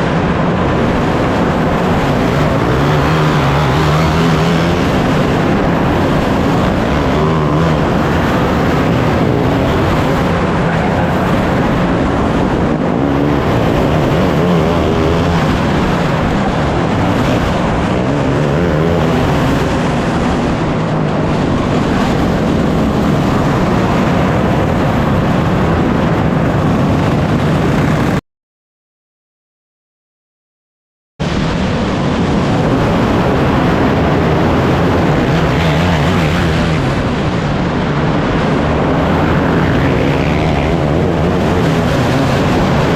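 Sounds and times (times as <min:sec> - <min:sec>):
race car engines passing: 0:00.0 - 0:28.0, 0:32.1 - 0:42.9.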